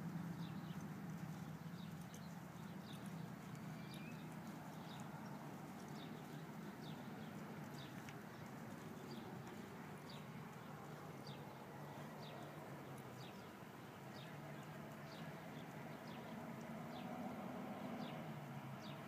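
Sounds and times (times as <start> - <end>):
faint hoofbeats on dirt: 0.0 - 19.0.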